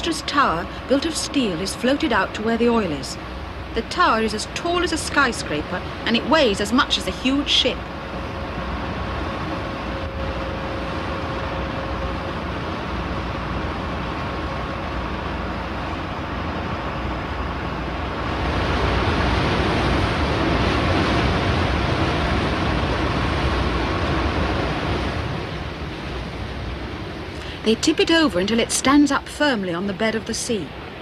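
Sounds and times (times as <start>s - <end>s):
sea rushing: 0.0s - 31.0s.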